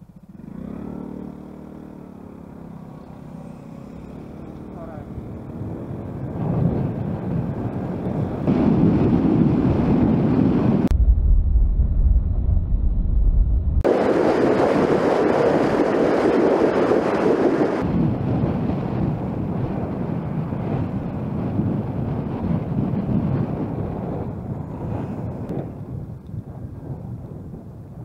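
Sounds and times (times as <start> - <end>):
wind rushing over microphone: 3.2 - 28.0.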